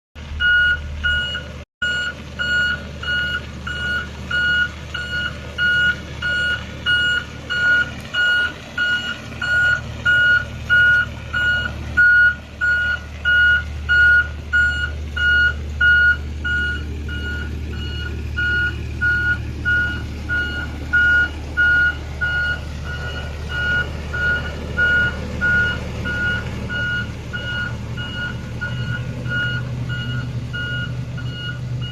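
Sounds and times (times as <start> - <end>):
engine running: 0.2 - 31.9
back-up alarm beeping: 0.4 - 31.9.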